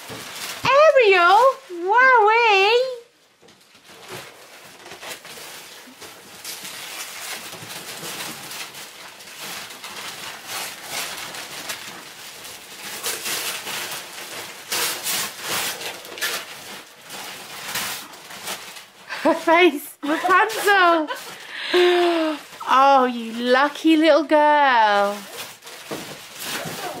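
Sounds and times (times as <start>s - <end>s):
wrapping paper rustling and tearing: 0.0s - 27.0s.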